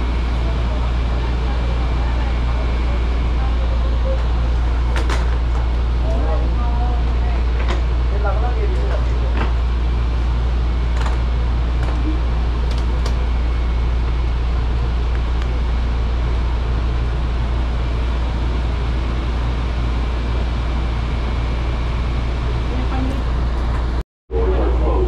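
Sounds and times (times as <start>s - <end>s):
moving train rumble and hiss: 0.0s - 25.0s.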